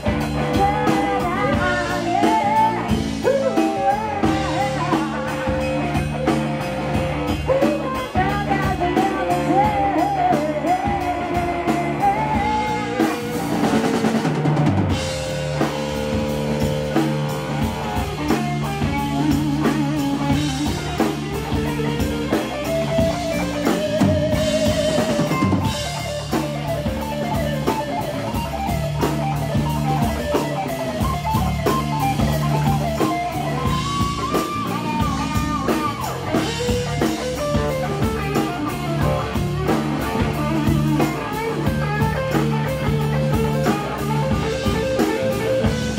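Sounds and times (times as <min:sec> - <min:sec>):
bass guitar: 0:00.0 - 0:45.9
drum kit: 0:00.0 - 0:45.9
electric guitar: 0:00.0 - 0:45.9.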